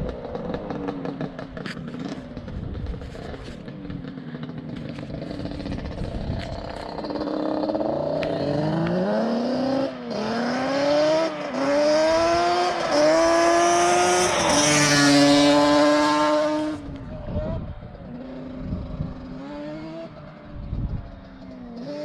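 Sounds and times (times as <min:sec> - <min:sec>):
two-stroke engine accelerating: 0:00.0 - 0:22.0.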